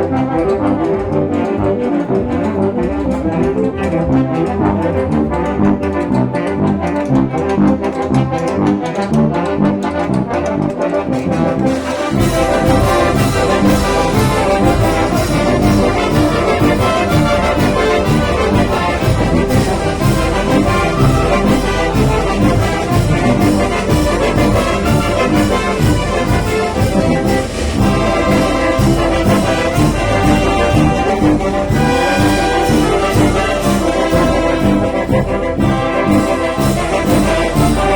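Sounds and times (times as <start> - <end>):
brass band playing: 0.0 - 37.9.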